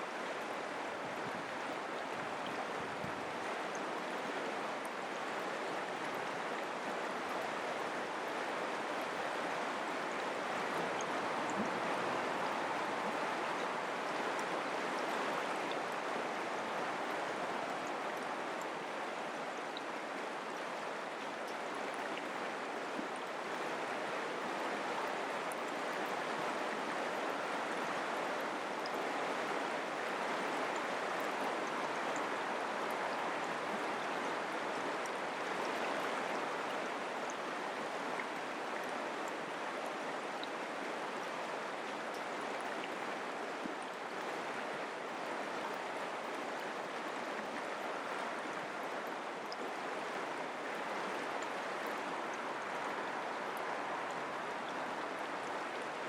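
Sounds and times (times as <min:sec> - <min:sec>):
creek water flowing: 0:00.0 - 0:56.0.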